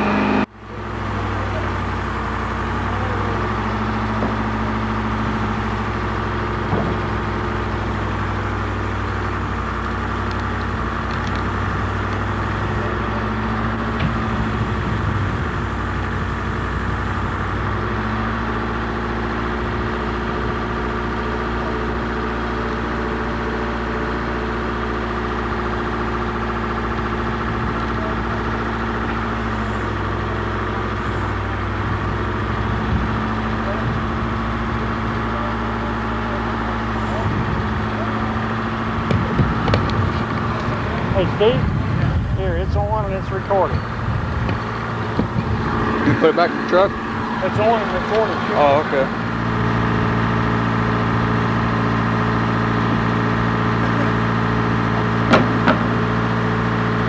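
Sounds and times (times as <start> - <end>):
motor idling hum: 0.0 - 57.0.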